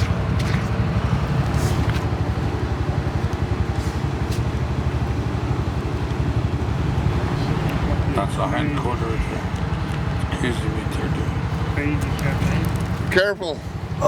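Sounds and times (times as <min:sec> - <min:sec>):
engine rumbling steadily: 0:00.0 - 0:14.0.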